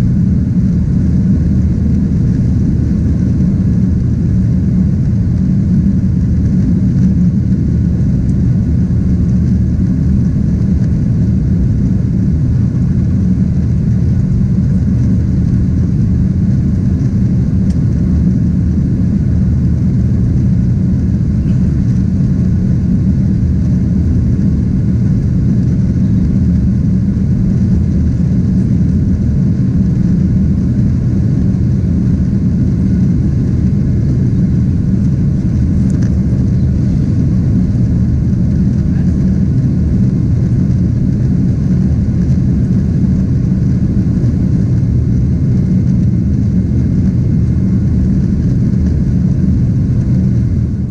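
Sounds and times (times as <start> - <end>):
jet engines droning: 0.0 - 50.9.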